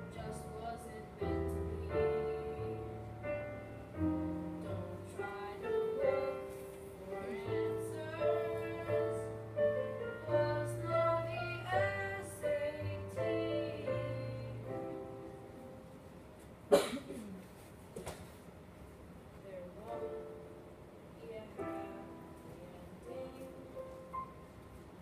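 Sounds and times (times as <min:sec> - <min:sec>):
piano accompaniment: 0:00.0 - 0:16.9, 0:19.8 - 0:25.0.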